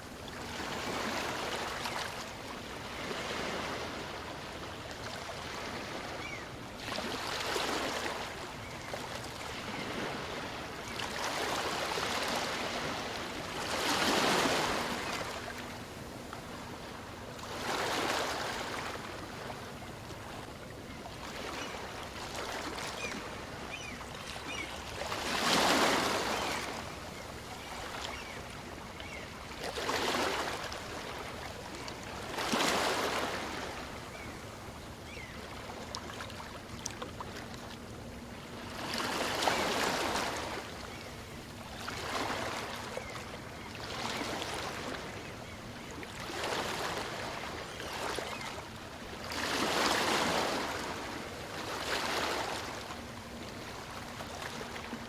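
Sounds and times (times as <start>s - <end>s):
waves breaking on shore: 0.0s - 20.5s, 21.2s - 34.4s, 35.1s - 43.2s, 43.8s - 55.0s.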